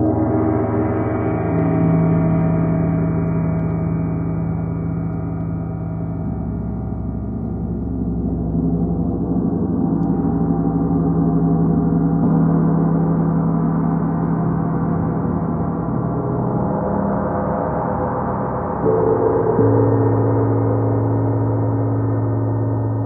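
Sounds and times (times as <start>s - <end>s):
gong ringing with deep hum: 0.0s - 23.0s.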